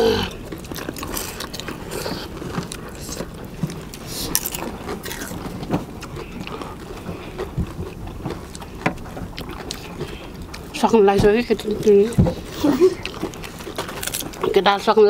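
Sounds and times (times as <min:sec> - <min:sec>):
crisp shells crunching: 0:00.3 - 0:10.8, 0:11.6 - 0:14.7.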